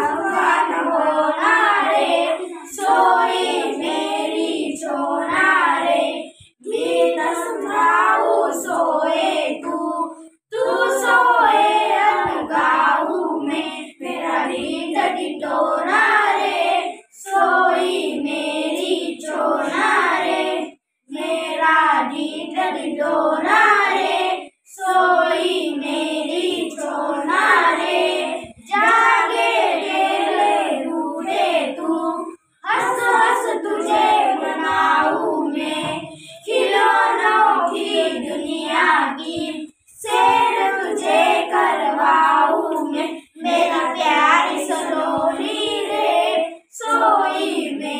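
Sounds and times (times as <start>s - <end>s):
children singing unaccompanied: 0.0s - 47.9s.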